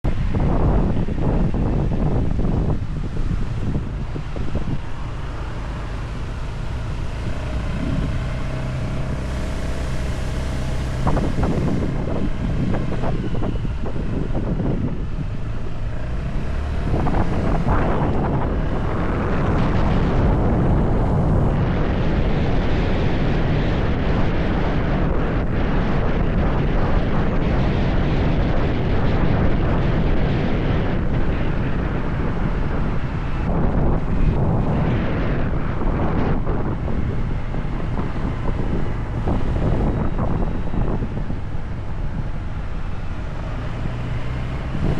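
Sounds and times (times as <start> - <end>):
motorcycle engine running: 0.0 - 44.9
wind buffeting microphone: 0.0 - 44.9.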